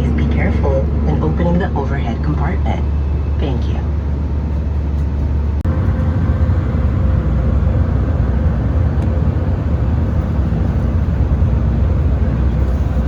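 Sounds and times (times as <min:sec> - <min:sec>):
aircraft engine roar: 0:00.0 - 0:13.0.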